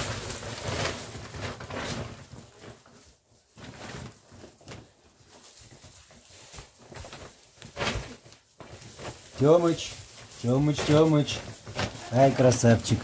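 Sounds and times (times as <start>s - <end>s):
paper sack crackling: 0.0s - 13.0s
straw rustling: 0.0s - 13.0s.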